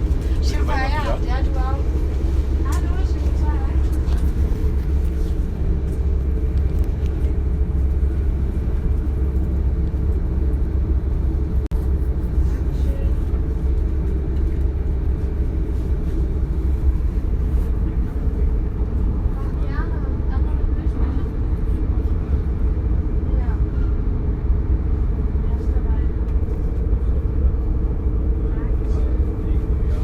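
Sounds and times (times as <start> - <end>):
train rumbling from inside car: 0.0 - 30.0.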